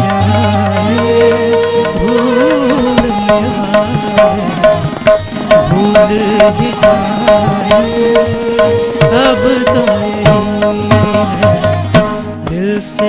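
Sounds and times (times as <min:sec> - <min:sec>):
sustained harmonium notes: 0:00.0 - 0:13.0
tabla playing: 0:00.0 - 0:13.0.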